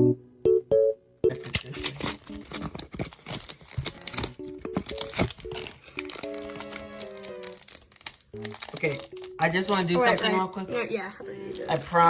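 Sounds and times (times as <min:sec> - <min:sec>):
keyboard background music: 0:00.0 - 0:12.0
plastic packaging crinkling and tearing: 0:01.4 - 0:12.0.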